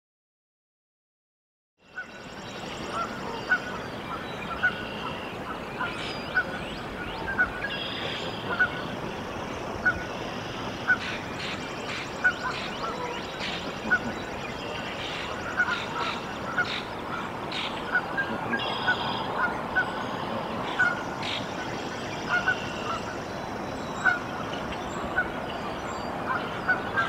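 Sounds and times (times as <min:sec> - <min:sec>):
steady background hiss: 0:01.8 - 0:27.0
geese and goslings calling: 0:02.0 - 0:27.0.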